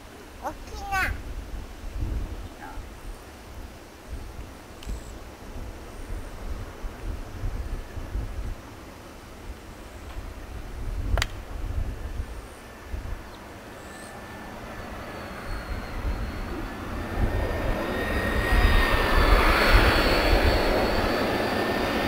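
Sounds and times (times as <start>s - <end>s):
low gusty rumble: 0.5s - 13.4s, 14.6s - 22.0s
jet engines whining: 0.6s - 22.0s.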